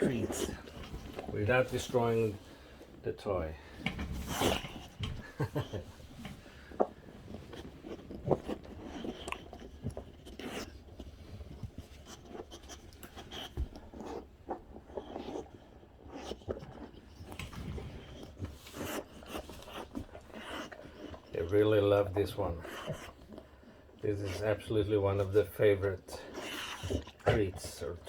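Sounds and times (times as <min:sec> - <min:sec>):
dog chewing: 0:00.0 - 0:03.0, 0:03.6 - 0:28.0.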